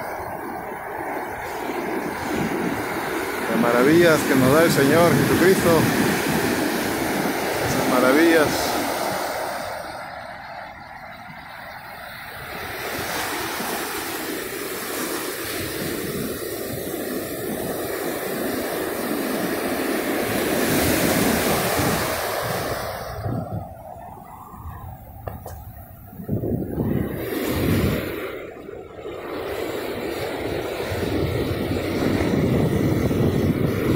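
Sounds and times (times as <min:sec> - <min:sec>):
surf waves breaking on beach: 0:00.0 - 0:33.9
wind buffeting microphone: 0:00.0 - 0:33.9.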